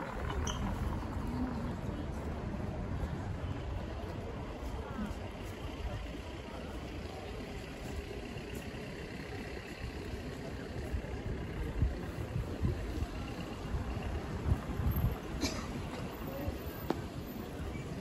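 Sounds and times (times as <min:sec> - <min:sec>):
vehicle engine running: 0:00.0 - 0:15.4
low street rumble: 0:00.0 - 0:18.0.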